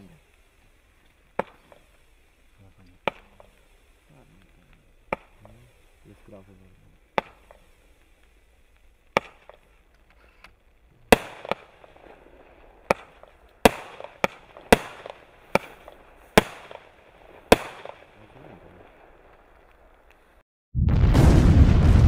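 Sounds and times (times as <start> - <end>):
firework shots banging: 0.2 - 20.4.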